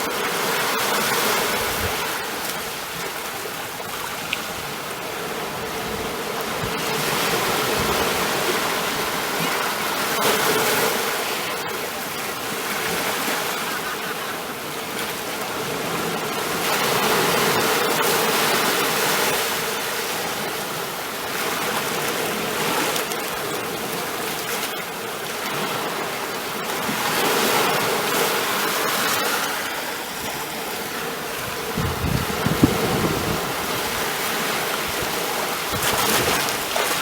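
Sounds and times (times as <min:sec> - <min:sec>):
ocean waves washing on shore: 0:00.0 - 0:37.0.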